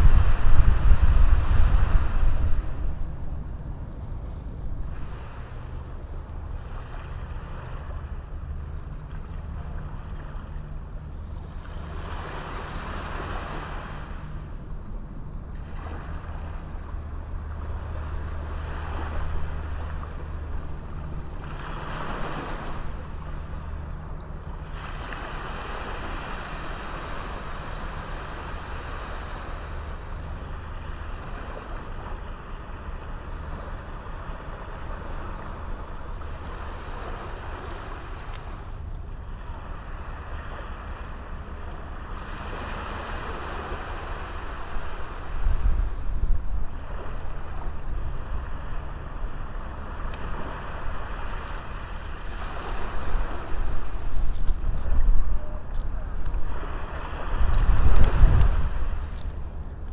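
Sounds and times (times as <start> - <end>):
small waves breaking on beach: 0.0 - 3.3, 4.8 - 14.6, 15.5 - 59.9
low steady rumble: 0.0 - 59.9.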